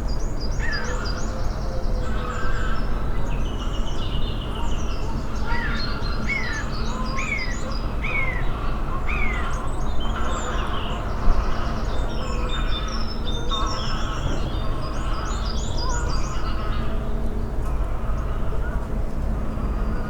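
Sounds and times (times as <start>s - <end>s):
woodland birds singing: 0.0s - 18.9s.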